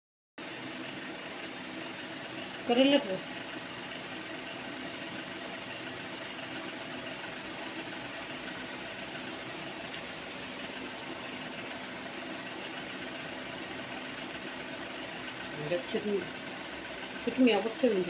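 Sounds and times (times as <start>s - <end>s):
faint constant tones: 0.4s - 18.0s
mechanical hum: 0.4s - 18.0s.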